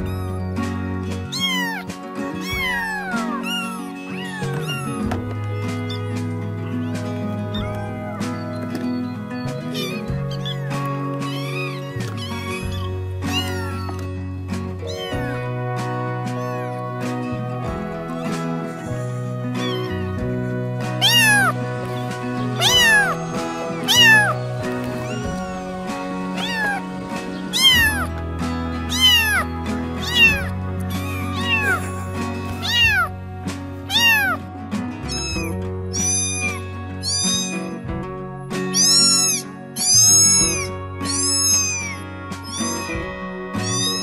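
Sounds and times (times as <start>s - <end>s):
kitten meowing: 0.0s - 0.6s, 1.2s - 14.2s, 14.8s - 17.1s, 18.0s - 28.2s, 28.8s - 33.2s, 33.8s - 37.8s, 38.6s - 44.0s
background music: 0.0s - 44.0s.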